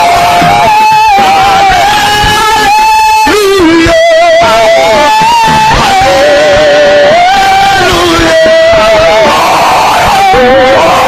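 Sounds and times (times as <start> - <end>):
electric guitar slow melody: 0.0 - 11.0.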